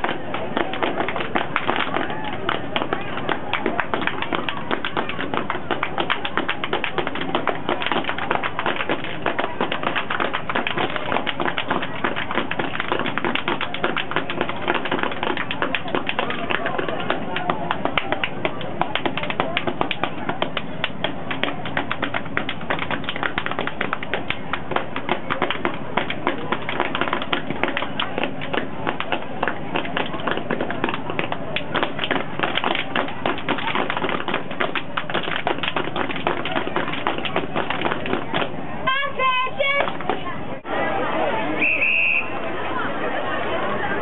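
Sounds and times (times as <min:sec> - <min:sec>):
hands clapping in unison: 0:00.0 - 0:38.5
feet stomping: 0:00.0 - 0:40.3.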